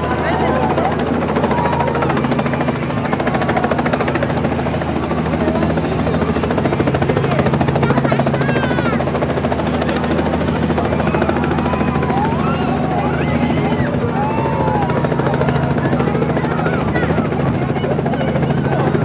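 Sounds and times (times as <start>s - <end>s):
helicopter rotor hum: 0.0s - 19.0s.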